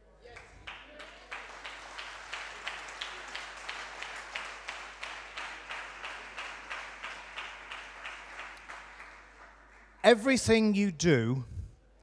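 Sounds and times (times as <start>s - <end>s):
audience clapping in rhythm: 0.0s - 11.3s.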